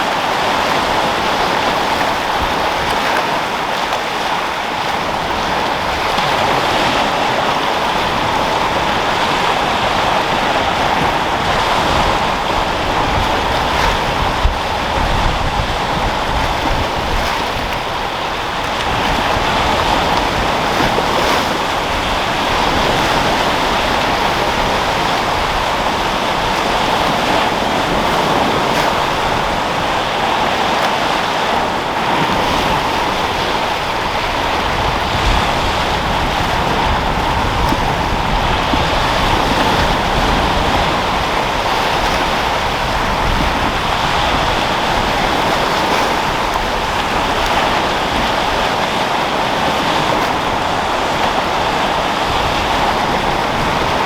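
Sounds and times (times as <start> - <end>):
waves breaking on rocky shore: 0.0 - 54.0
wind blowing over microphone: 0.0 - 54.0.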